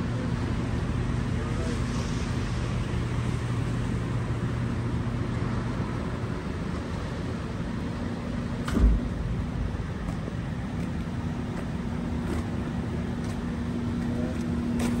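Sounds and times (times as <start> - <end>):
refuse truck engine hum: 0.0 - 15.0.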